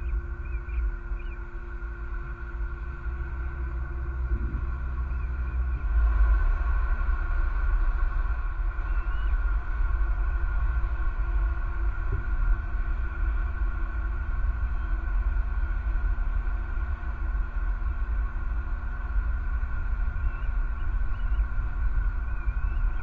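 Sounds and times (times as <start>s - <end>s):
droning hums: 0.0s - 23.0s
low rumble: 0.0s - 23.0s.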